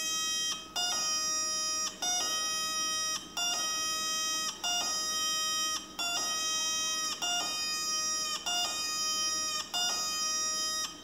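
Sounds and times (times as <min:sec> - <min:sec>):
two-tone electronic doorbell buzzing: 0:00.0 - 0:11.0.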